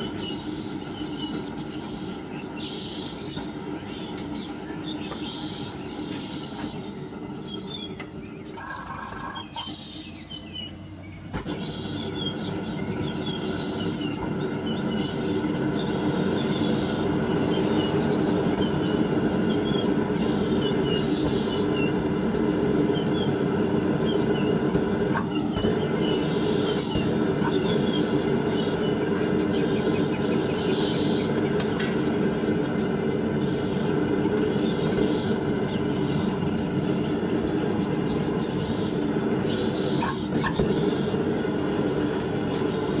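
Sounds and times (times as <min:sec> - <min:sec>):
birds chirping: 0:00.0 - 0:43.0
forge burners rushing: 0:00.0 - 0:43.0.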